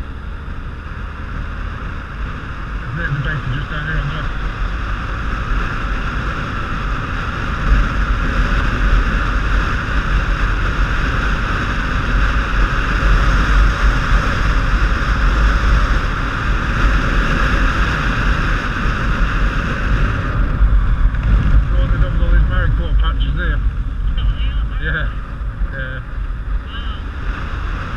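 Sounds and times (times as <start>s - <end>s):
motorcycle engine drone: 0.0s - 27.9s
wind rushing over microphone: 0.0s - 27.9s.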